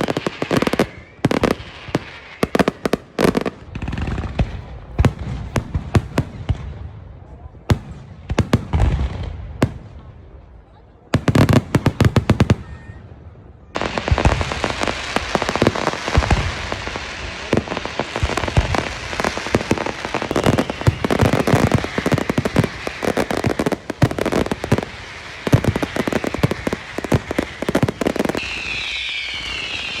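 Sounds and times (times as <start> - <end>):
fireworks crackling and banging: 0.0 - 30.0.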